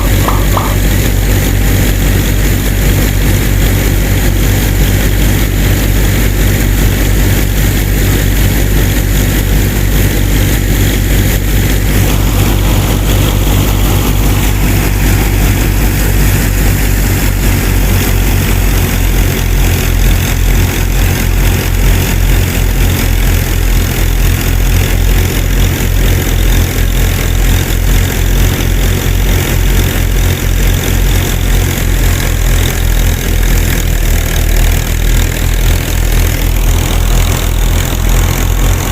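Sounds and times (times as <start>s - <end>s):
small engine chugging: 0.0s - 38.9s.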